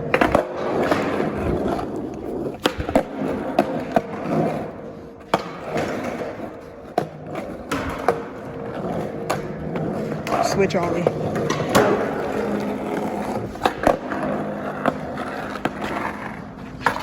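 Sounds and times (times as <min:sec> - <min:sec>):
skateboard clacks: 0:00.0 - 0:17.0
skateboard wheels rolling on concrete: 0:00.0 - 0:17.0.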